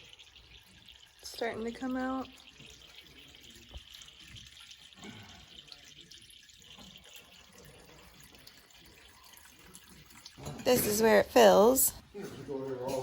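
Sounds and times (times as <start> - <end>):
liquid trickling and dripping: 0.0 - 13.0.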